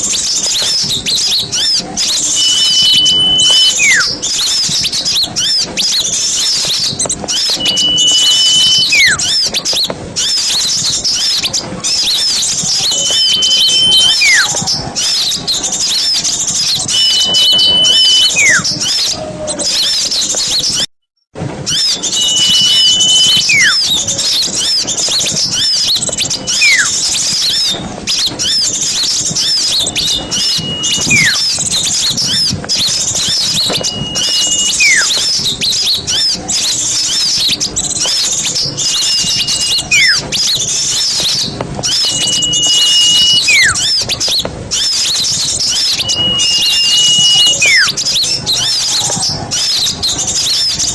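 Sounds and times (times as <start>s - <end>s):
bird whistle call: 0.0s - 20.9s, 21.7s - 50.9s
small birds chirping: 0.0s - 20.9s, 21.7s - 50.9s.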